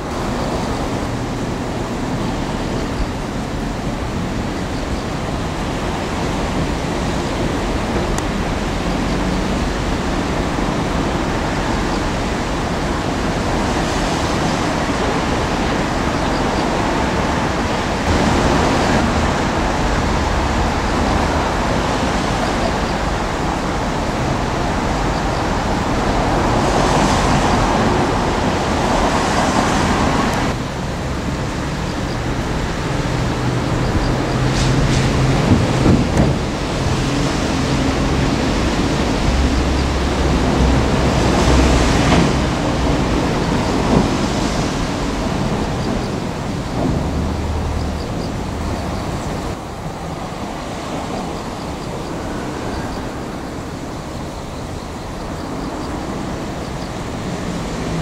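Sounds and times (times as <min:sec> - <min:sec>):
excavator engine and hydraulics: 0:00.0 - 0:58.0.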